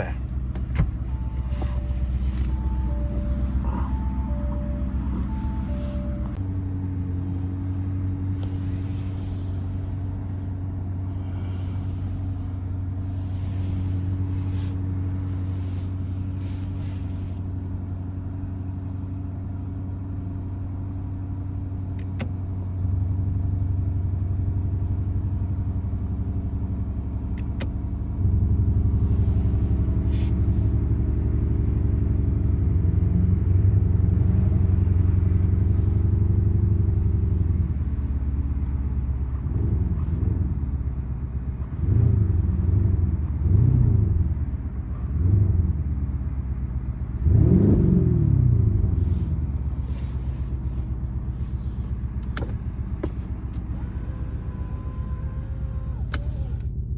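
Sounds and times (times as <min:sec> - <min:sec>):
car engine idling rumble: 0:00.0 - 0:56.9.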